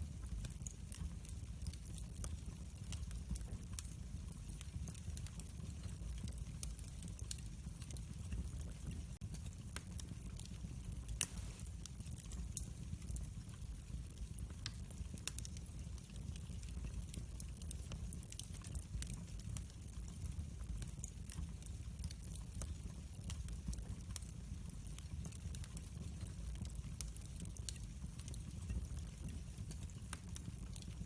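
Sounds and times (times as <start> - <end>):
low rumble of flames: 0.0 - 31.0
wood fire crackling and popping: 0.0 - 31.0.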